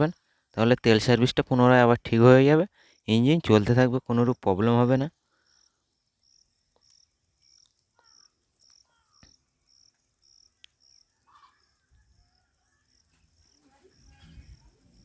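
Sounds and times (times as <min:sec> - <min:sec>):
faint insect chirping: 0:00.0 - 0:01.7, 0:02.4 - 0:15.0.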